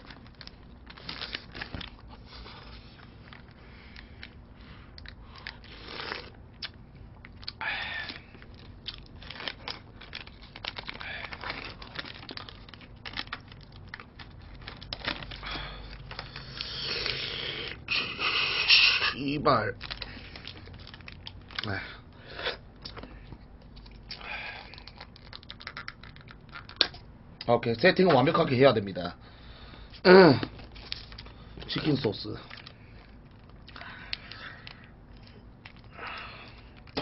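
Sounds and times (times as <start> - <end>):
packaging crinkling and tearing: 0.0 - 4.4, 5.0 - 17.8, 19.2 - 27.0, 30.5 - 37.0.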